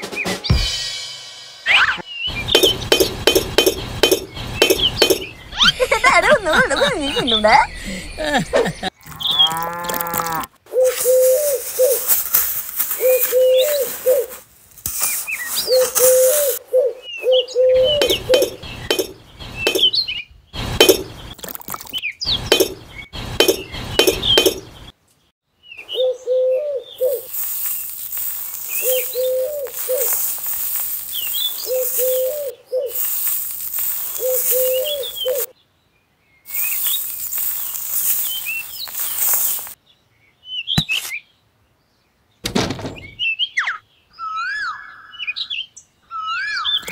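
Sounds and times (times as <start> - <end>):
birds chirping: 1.7 - 14.4, 15.0 - 46.9.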